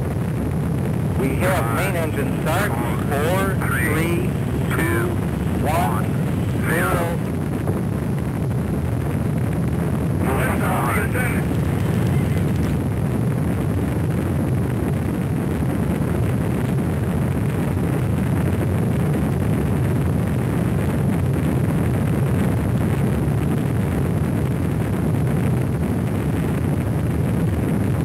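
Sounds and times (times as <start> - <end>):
rocket launch low rumble: 0.0 - 28.0.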